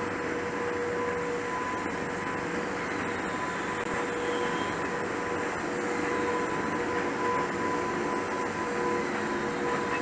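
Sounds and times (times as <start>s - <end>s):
city noise: 0.0s - 10.0s
train rumble: 0.0s - 10.0s.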